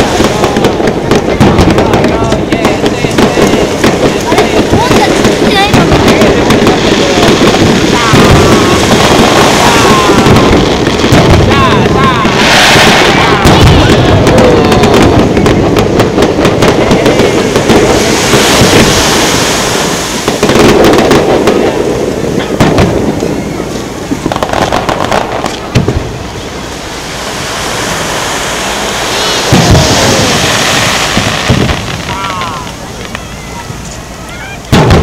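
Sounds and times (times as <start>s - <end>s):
deep fireworks booms: 0.0s - 35.0s
fireworks crackling and bangs: 0.0s - 35.0s.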